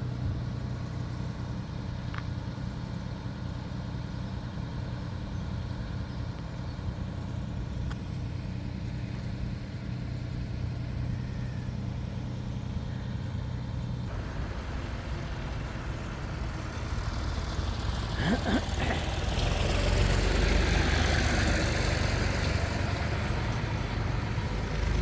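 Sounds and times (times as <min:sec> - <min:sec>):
diesel engine idling: 0:00.0 - 0:25.0
rough engine noise: 0:00.0 - 0:25.0.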